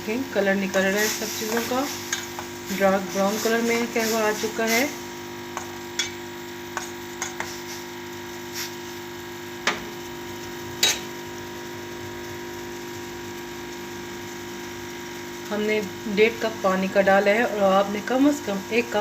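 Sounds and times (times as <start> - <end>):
stove hum: 0.0 - 19.0.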